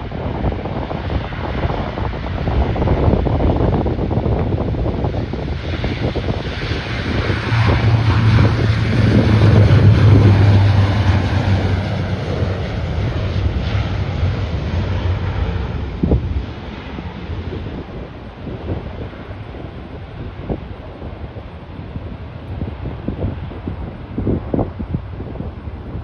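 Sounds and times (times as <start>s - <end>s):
aircraft engines passing: 0.0s - 26.0s
wind buffeting microphone: 0.0s - 26.0s.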